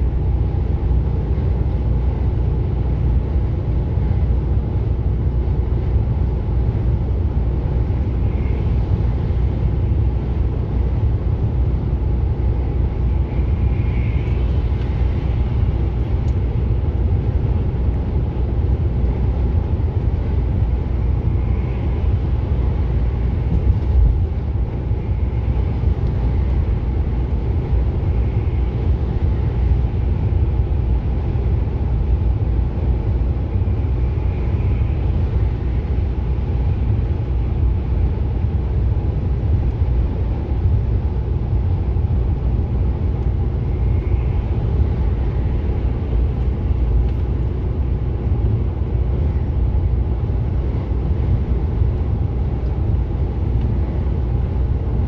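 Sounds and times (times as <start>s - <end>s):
truck engine and tyres drone: 0.0s - 55.0s.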